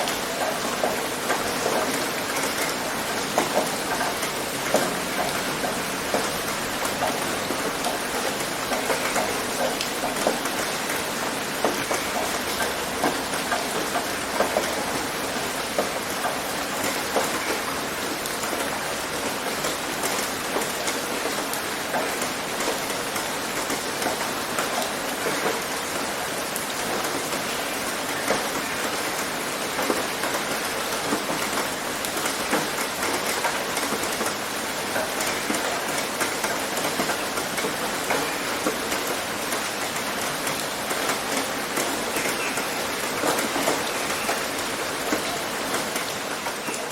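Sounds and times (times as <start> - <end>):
rain on a tin roof: 0.0 - 46.9.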